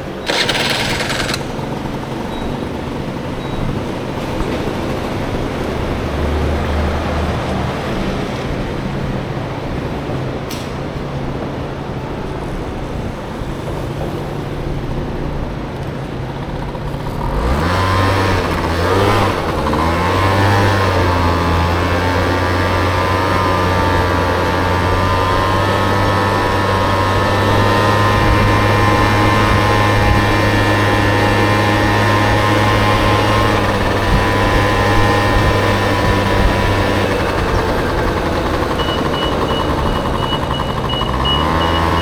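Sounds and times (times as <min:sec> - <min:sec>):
scooter engine running: 0:00.0 - 0:10.4, 0:11.7 - 0:42.0
road noise: 0:00.0 - 0:42.0.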